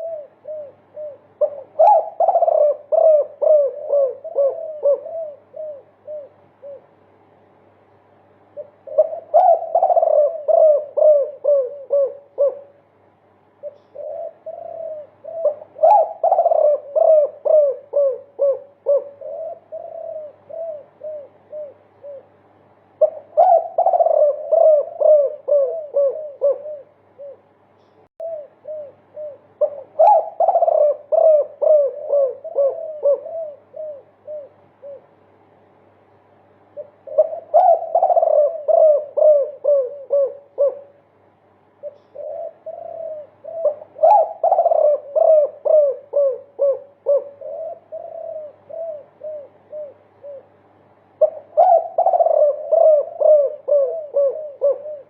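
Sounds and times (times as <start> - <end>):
dove cooing: 0.0 - 7.2, 8.4 - 35.4, 36.6 - 55.0.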